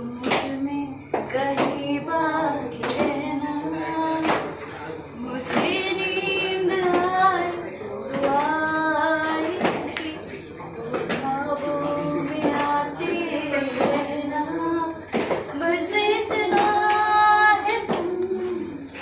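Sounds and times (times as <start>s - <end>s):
woman singing unaccompanied: 0.0s - 4.6s, 5.2s - 10.2s, 11.1s - 19.0s.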